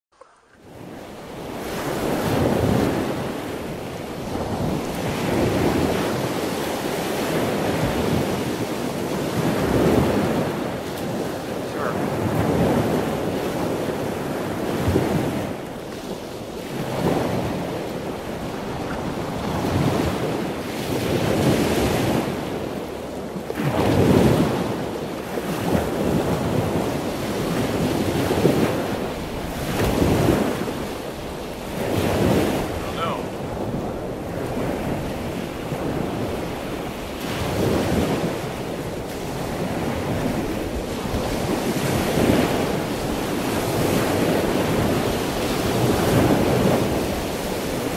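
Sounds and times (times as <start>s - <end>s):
choppy water washing against hull: 0.2s - 47.9s
wind buffeting microphone: 0.6s - 47.9s.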